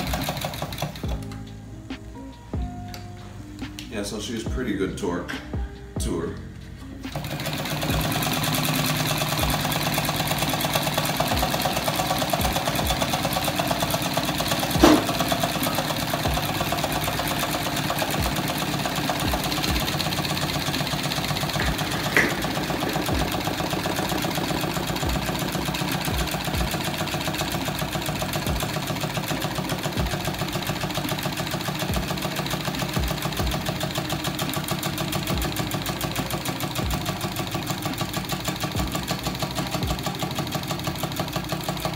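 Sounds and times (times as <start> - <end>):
small engine clattering rhythmically: 0.0 - 1.3, 7.1 - 41.9.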